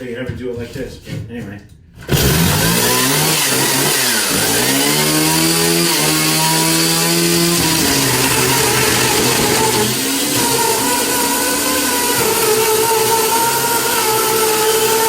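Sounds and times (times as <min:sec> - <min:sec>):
chainsaw cutting at high revs: 0:02.1 - 0:15.0.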